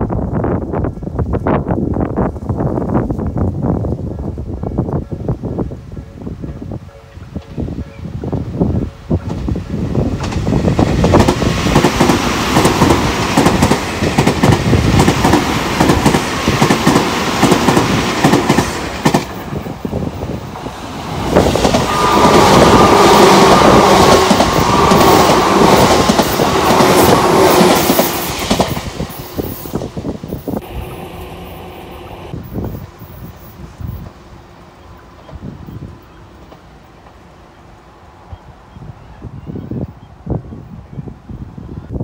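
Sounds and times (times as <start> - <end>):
electric train passing: 4.1 - 38.9.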